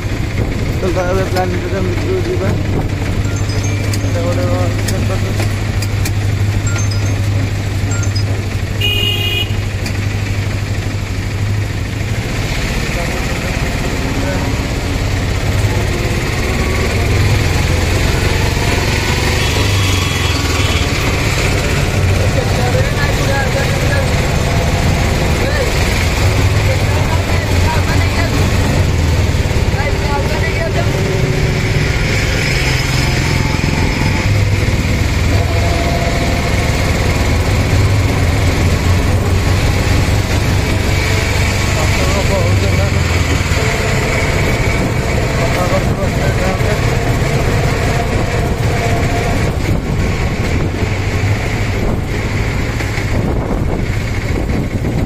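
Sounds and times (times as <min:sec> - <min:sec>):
rickshaw engine rumble: 0:00.0 - 0:55.0
road and traffic noise: 0:00.0 - 0:55.0.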